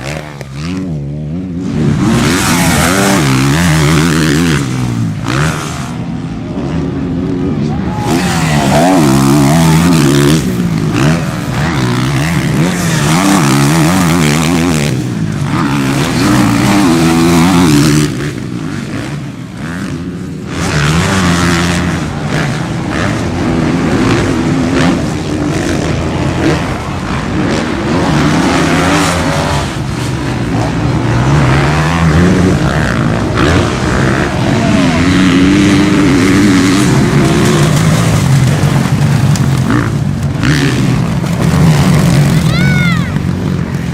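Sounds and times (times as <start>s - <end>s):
motocross bike engines revving: 0.0s - 43.9s.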